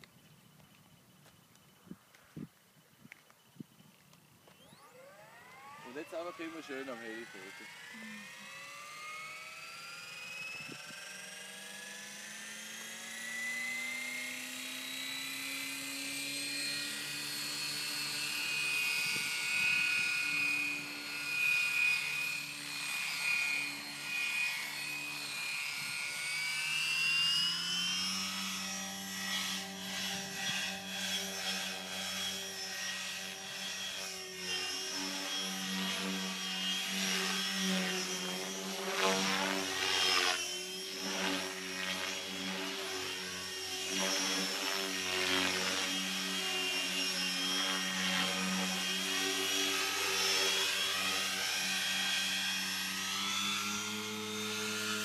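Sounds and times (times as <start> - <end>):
rc helicopter motor and rotor whine: 3.1 - 55.0.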